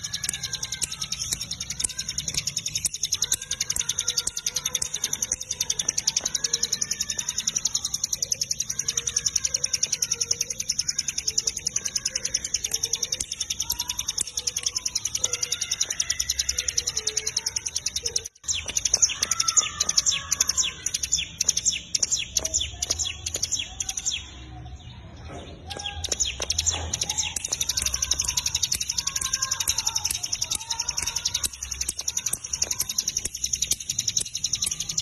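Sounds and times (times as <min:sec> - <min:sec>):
bird chattering trill: 0:00.0 - 0:24.6, 0:25.6 - 0:35.0.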